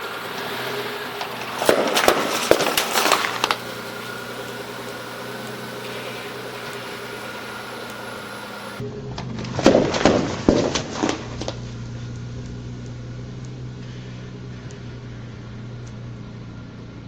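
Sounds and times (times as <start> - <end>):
car tyre crushing crunchy objects: 0.0 - 16.2
car engine running: 0.0 - 17.0.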